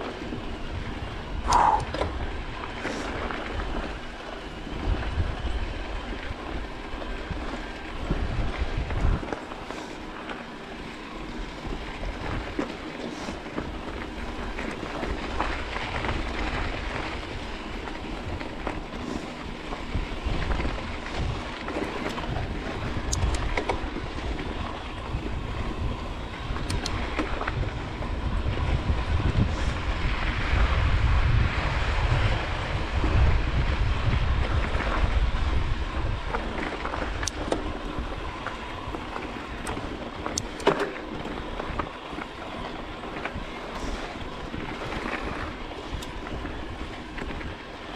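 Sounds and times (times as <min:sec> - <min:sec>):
bike tyres rolling on gravel: 0:00.0 - 0:47.9
stones and bike rattling: 0:00.0 - 0:47.9
wind buffeting microphone: 0:00.0 - 0:47.9.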